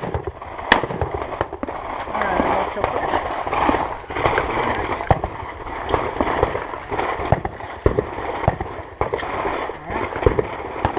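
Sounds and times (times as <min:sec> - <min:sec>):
rifle shots: 0:00.0 - 0:10.9.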